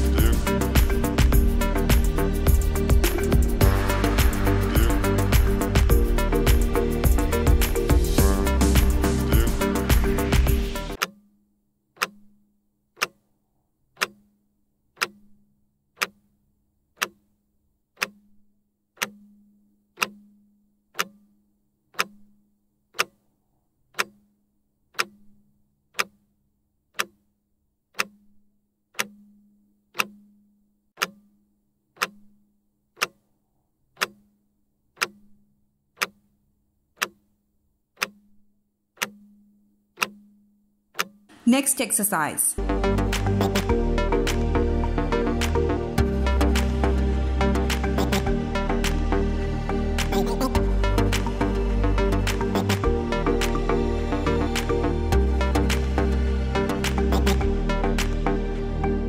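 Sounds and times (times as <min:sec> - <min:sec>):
clock ticking: 0:00.0 - 0:11.3, 0:11.9 - 0:23.2, 0:23.9 - 0:26.3, 0:26.9 - 0:27.3, 0:27.9 - 0:33.3, 0:33.9 - 0:58.4.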